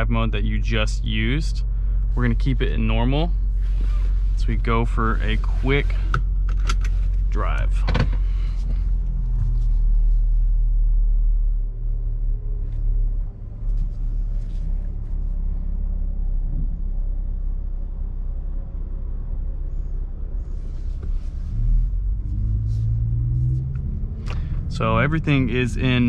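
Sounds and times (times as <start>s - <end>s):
engine rumbling at low revs: 0.0s - 26.0s.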